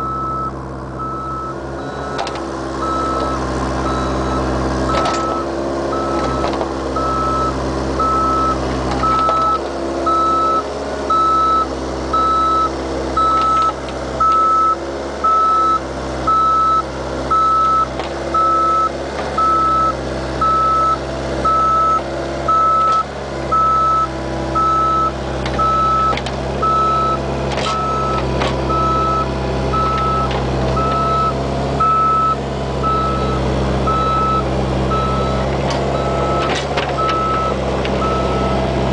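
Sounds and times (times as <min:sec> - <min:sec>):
excavator engine running: 0:00.0 - 0:38.9
excavator travel alarm beeping: 0:00.0 - 0:38.9.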